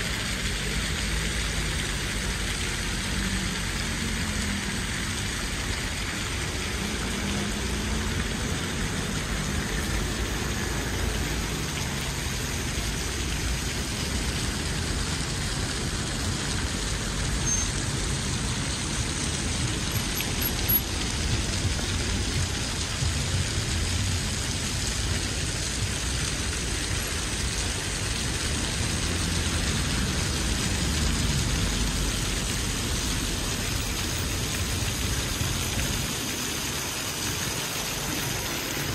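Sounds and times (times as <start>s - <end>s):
cars passing: 0.0s - 38.9s
constant traffic hiss: 0.0s - 38.9s.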